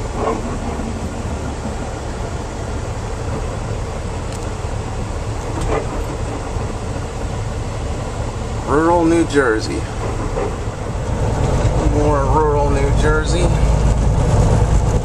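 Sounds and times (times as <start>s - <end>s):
truck diesel engine rumble: 0.0s - 15.0s.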